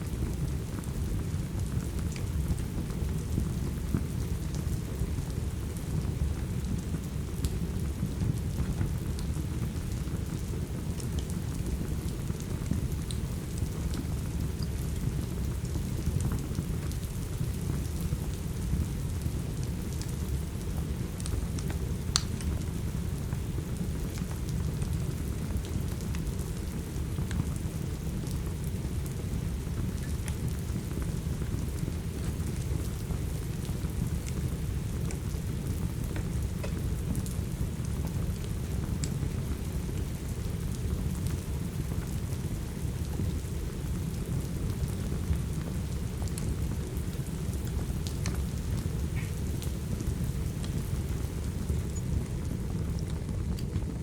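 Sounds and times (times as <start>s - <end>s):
heavy rain: 0.1s - 54.0s
wood fire crackling and popping: 0.2s - 54.0s.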